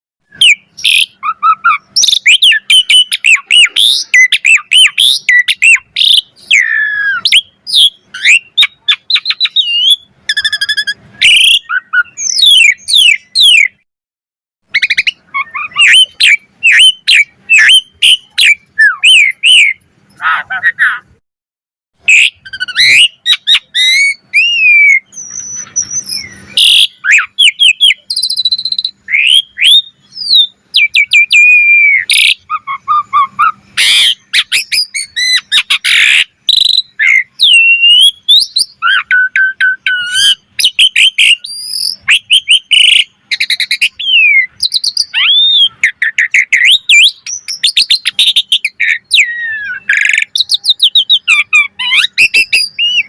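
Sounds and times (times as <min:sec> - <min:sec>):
starling singing: 0:00.2 - 0:13.8, 0:14.7 - 0:21.2, 0:22.0 - 0:53.0.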